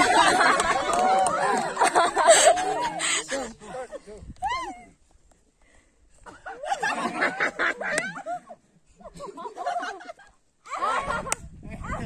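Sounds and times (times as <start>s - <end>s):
group of people laughing: 0.0s - 4.2s, 6.2s - 12.0s.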